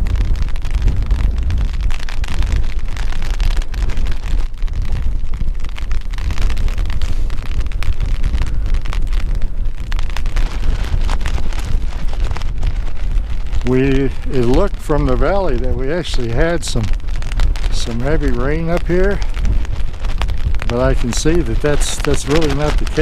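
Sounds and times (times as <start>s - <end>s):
light rain ticking: 0.0s - 23.0s
strong wind buffeting microphone: 0.0s - 23.0s.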